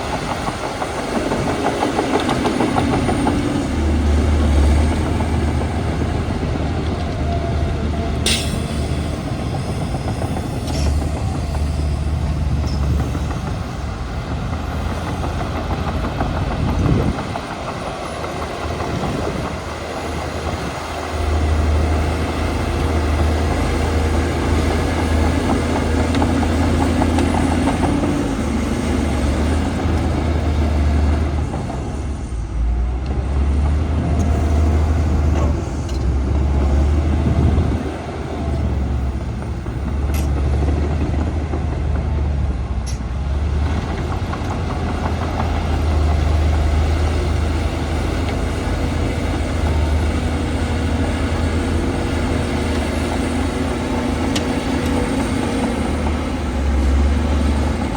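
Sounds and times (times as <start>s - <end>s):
heavy diesel machinery engine: 0.0s - 57.9s.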